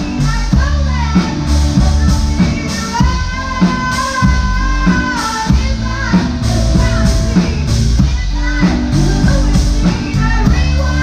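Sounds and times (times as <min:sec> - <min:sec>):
drum kit steady beat: 0:00.0 - 0:11.0
guitar: 0:00.0 - 0:11.0
upright double bass: 0:00.0 - 0:11.0.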